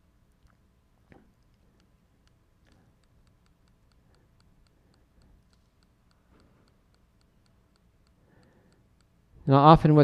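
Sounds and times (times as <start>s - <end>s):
faint even ticking: 0.0s - 9.7s
low background hum: 0.0s - 10.0s.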